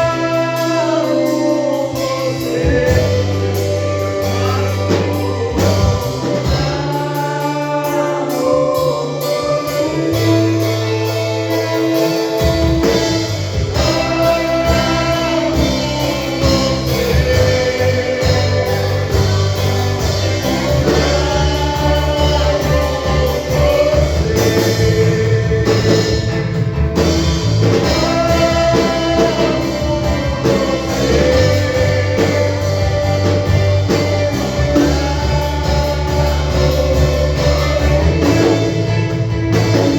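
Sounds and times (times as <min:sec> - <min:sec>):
bass: 0:00.0 - 0:39.9
guitar: 0:00.0 - 0:39.9
person singing: 0:00.0 - 0:39.9.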